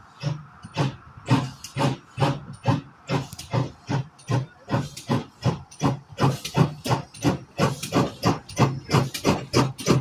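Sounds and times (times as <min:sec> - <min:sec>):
steam locomotive chuffing: 0:00.0 - 0:10.0.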